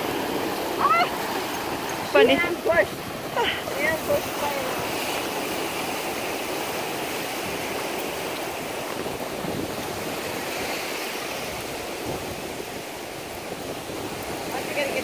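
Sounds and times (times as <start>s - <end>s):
surf washing on sandy beach: 0.0s - 15.0s.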